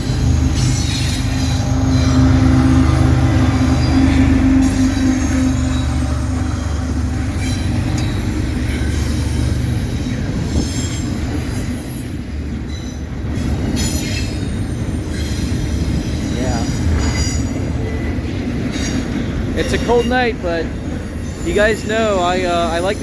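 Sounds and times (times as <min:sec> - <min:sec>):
freight cars rumbling on rails: 0:00.0 - 0:23.0
high-pitched wheel squeal: 0:00.0 - 0:23.0.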